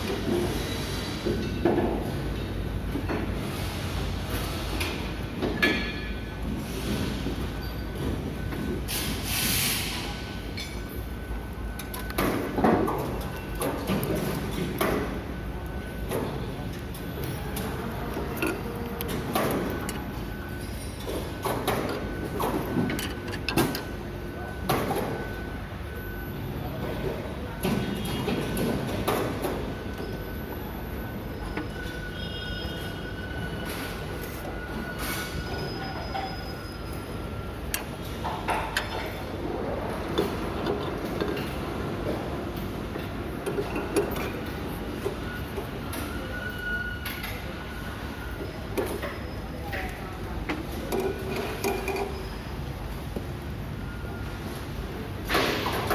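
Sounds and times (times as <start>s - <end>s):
machinery hum: 0.0s - 55.9s.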